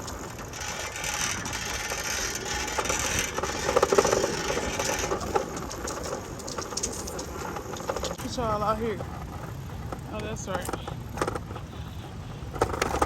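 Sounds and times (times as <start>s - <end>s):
bicycle rattling and clicking: 0.0s - 13.0s.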